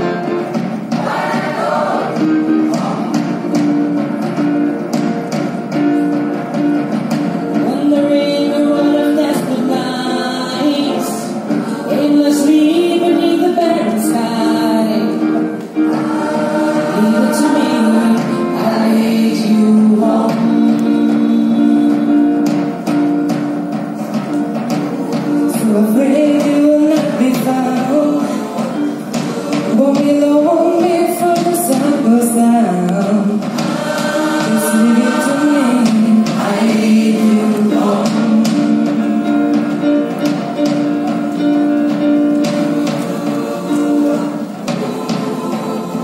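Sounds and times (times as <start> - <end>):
gospel choir singing: 0.0 - 46.0
keyboard accompaniment: 0.0 - 46.0.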